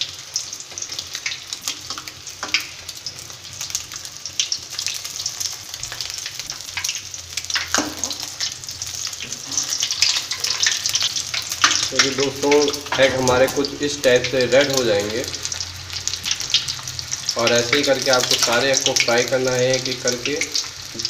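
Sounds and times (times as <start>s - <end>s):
eggs sizzling in hot oil: 0.0s - 21.0s.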